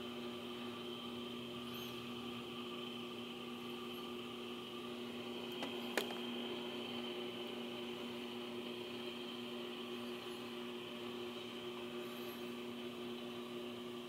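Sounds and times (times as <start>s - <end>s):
steady tonal hum: 0.0s - 14.0s.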